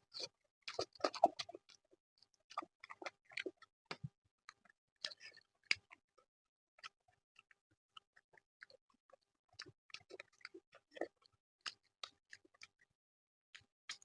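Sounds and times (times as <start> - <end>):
food being chewed: 0.0 - 12.9, 13.5 - 14.0.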